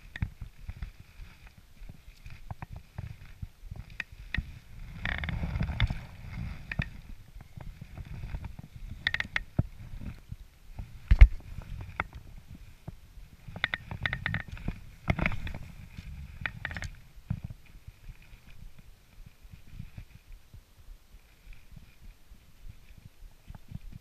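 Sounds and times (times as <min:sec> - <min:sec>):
handling clicks and rustles: 0:00.0 - 0:20.4.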